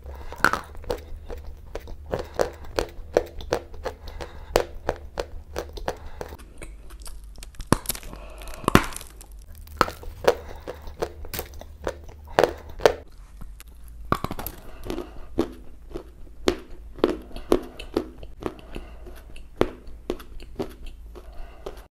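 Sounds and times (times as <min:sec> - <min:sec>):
crunchy chewing of clay: 0:00.0 - 0:21.9.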